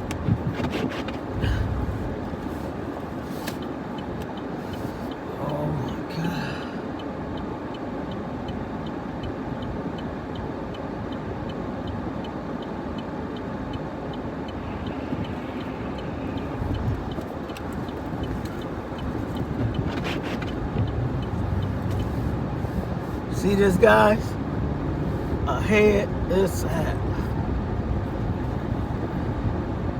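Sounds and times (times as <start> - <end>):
truck road and engine noise: 0.0 - 29.9.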